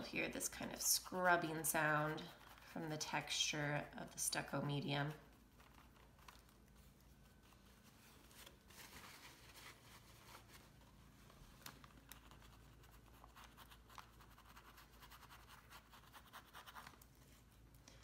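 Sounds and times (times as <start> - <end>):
paintbrush scrubbing textured surface: 0.4 - 10.9, 12.2 - 17.6.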